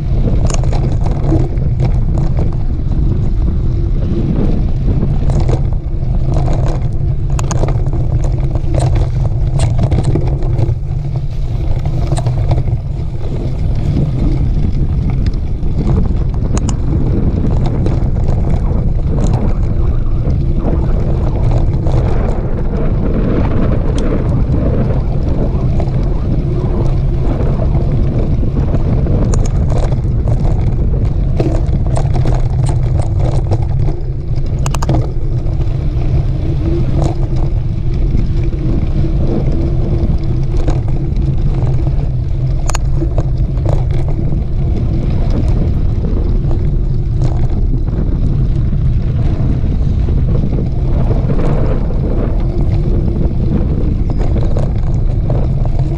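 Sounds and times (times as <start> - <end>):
sharp clicks and rattles: 0.0 - 55.9
wind buffeting microphone: 0.0 - 55.9.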